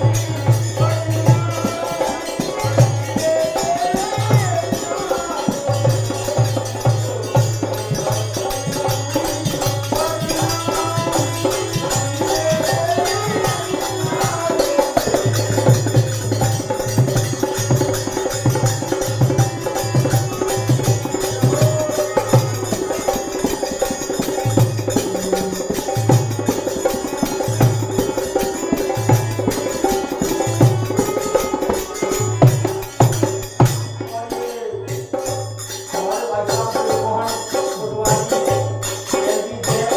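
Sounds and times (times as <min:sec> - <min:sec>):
drum beat: 0:00.0 - 0:39.9
held melody: 0:00.0 - 0:39.9
jingling hand percussion: 0:00.0 - 0:39.9.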